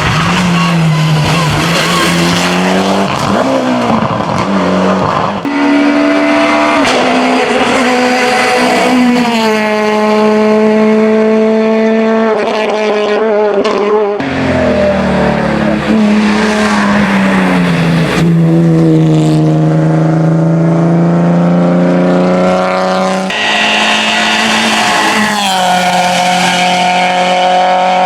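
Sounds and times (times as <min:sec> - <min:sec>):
race car engine at high revs: 0:00.0 - 0:28.0.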